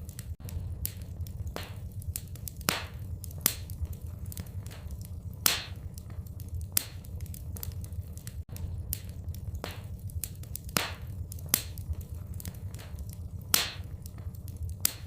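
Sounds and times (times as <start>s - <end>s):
fire popping: 0.0s - 15.0s
low steady rumble: 0.0s - 15.0s
wood fire crackling: 0.0s - 15.0s.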